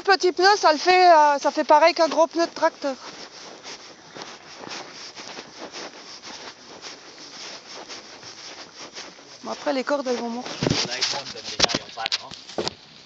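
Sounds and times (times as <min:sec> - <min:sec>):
microphone handling rustle: 0:00.0 - 0:13.0.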